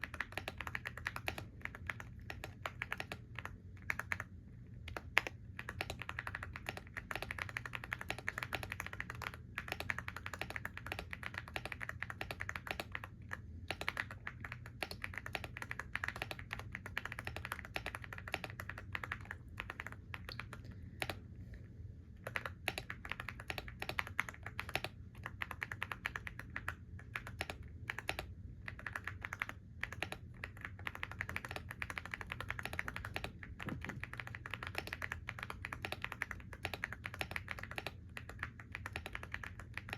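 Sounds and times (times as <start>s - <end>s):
typing on keyboard: 0.0s - 21.2s, 22.2s - 39.9s.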